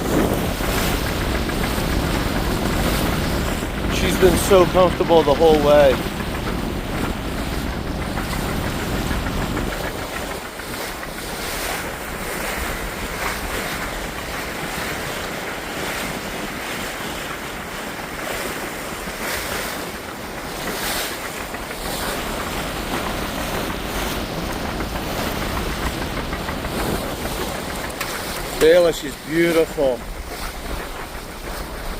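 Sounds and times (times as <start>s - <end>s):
water splashing along a hull: 0.0s - 31.9s
wind buffeting the microphone: 0.0s - 31.9s.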